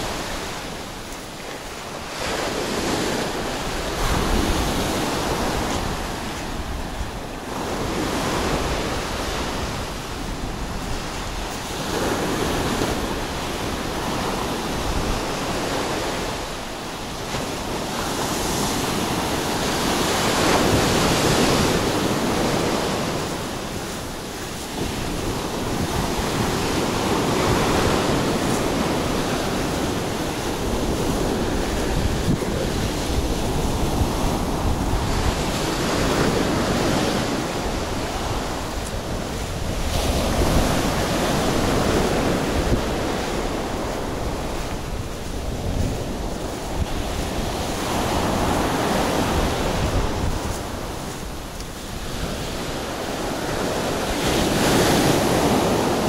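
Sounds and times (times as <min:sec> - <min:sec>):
waves breaking on beach: 0:00.0 - 0:56.0
wind buffeting microphone: 0:00.0 - 0:56.0.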